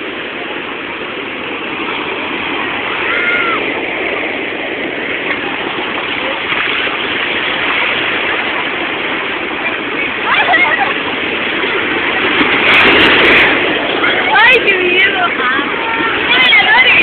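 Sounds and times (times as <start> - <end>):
sea waves breaking: 0.0 - 17.0.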